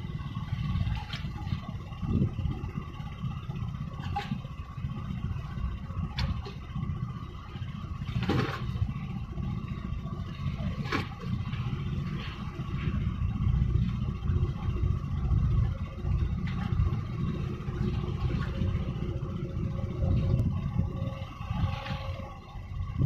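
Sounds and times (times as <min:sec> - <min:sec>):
boat engine rumbling: 0:00.0 - 0:23.0
water slapping against hull: 0:00.3 - 0:22.3.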